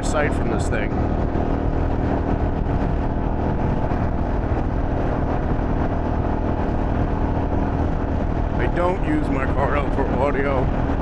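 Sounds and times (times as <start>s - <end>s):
motorcycle engine cruising: 0.0s - 11.0s
road noise: 0.0s - 11.0s
wind noise: 0.0s - 11.0s.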